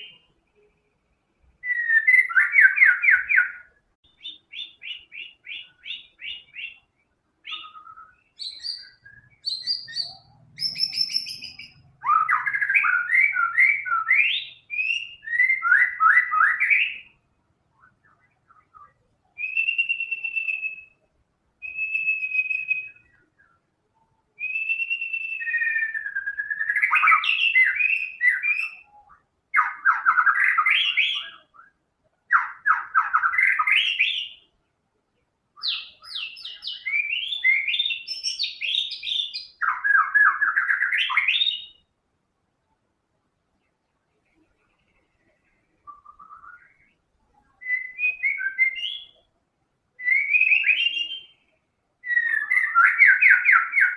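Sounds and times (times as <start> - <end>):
songbird singing with trills: 0.0 - 34.8, 35.5 - 41.9, 43.6 - 53.9.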